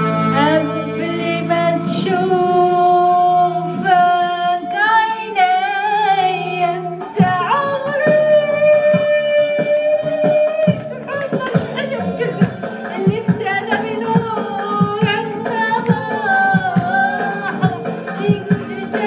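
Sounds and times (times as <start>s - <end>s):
low musical backing: 0.0s - 19.0s
woman singing into microphone: 0.3s - 19.0s.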